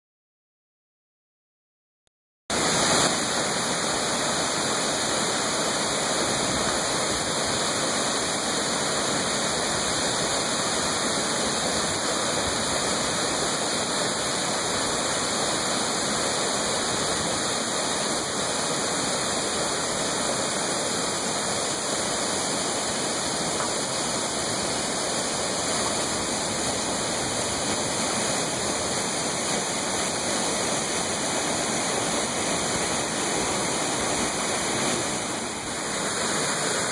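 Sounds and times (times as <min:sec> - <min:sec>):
waterfall pouring into pool: 0:02.5 - 0:36.9.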